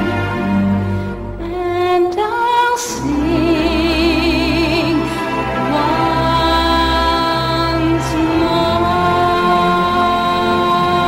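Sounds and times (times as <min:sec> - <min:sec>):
slow sad music: 0:00.0 - 0:11.0.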